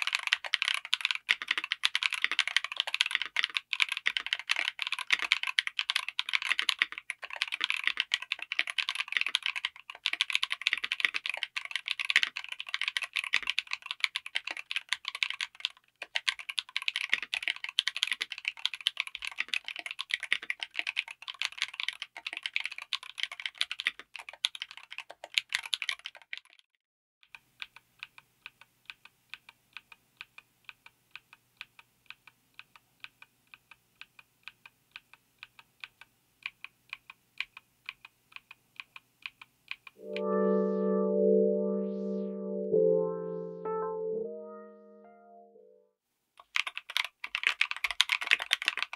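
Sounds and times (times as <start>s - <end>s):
fast typing on mechanical keyboard: 0.0s - 26.6s, 27.6s - 40.0s, 46.4s - 48.9s.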